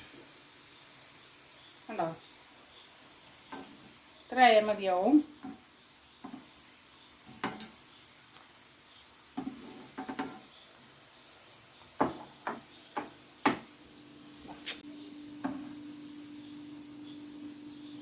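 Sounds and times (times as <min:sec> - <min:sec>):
dough frying in hot oil: 0:00.0 - 0:18.0.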